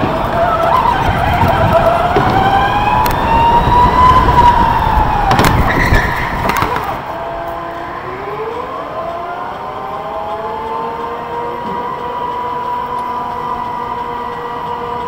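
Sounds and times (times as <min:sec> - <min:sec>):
electric go-kart motor whining: 0:00.0 - 0:15.0
tyre and track noise: 0:00.0 - 0:15.0.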